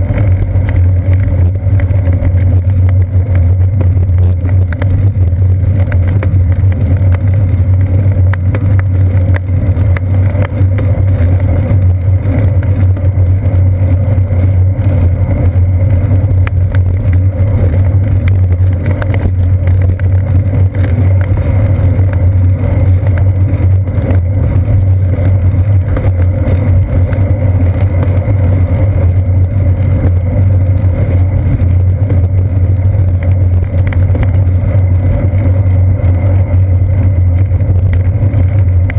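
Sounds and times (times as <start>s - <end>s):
bicycle rolling over asphalt: 0.0s - 38.9s
wind on camera: 0.0s - 38.9s.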